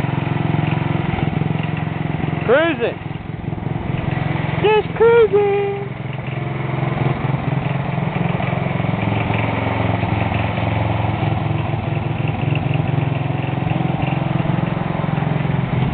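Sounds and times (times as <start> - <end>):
mower engine putter: 0.0 - 5.0, 5.9 - 15.9.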